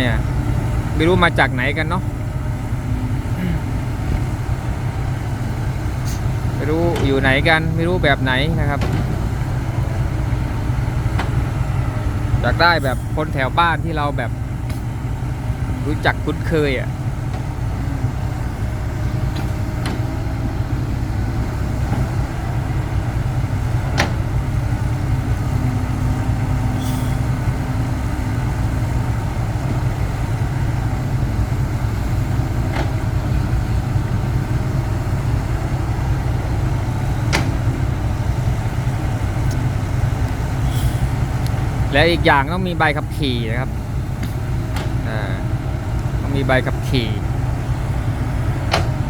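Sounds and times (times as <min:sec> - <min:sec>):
truck engine droning: 0:00.0 - 0:49.0.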